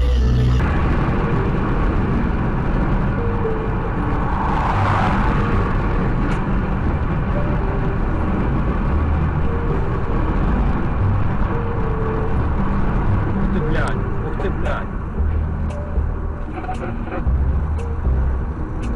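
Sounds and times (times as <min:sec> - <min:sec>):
car road and engine noise: 0:00.0 - 0:18.9.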